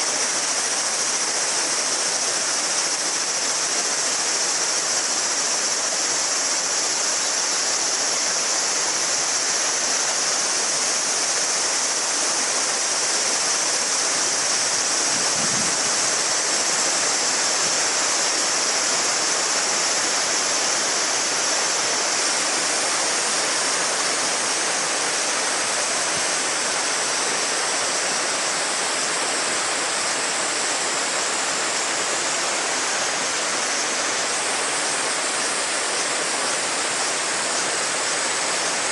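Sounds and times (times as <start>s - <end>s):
cicadas shrilling: 0.0s - 38.9s
river babbling: 0.0s - 38.9s.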